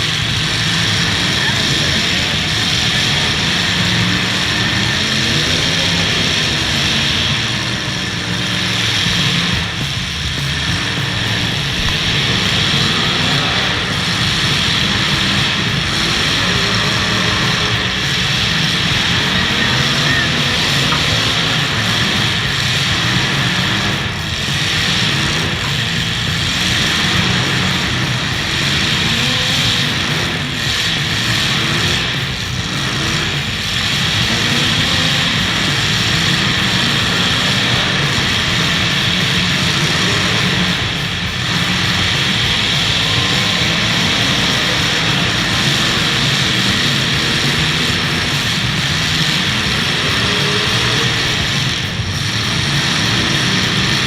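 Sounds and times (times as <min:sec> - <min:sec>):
car engines revving loudly: 0:00.0 - 0:54.0.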